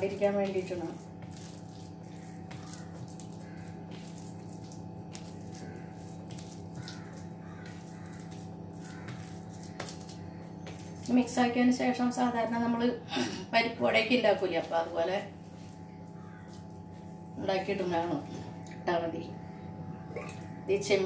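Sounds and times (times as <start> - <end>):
hands kneading wet paste: 0.0 - 12.5, 14.0 - 18.6
machine hum: 0.0 - 21.0.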